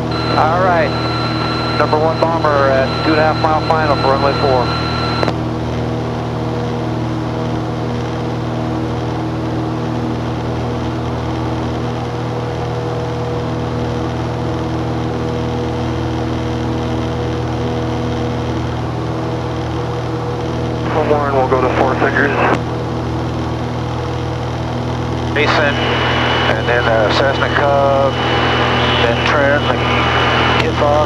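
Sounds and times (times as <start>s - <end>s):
aircraft engine and propeller drone: 0.0s - 31.0s.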